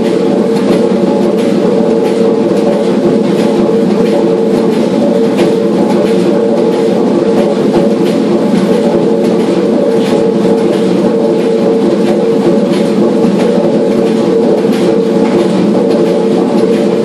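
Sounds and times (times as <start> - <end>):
steam engine clattering: 0.0 - 17.0.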